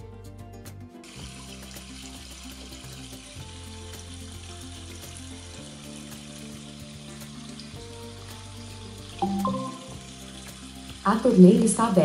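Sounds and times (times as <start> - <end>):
background music: 0.0 - 12.0
water running over rocks: 1.1 - 12.0.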